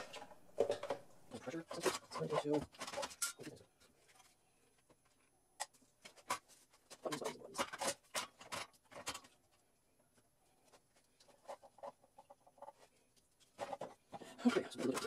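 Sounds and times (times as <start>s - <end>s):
plastic parts clicking and knocking: 0.0s - 15.0s.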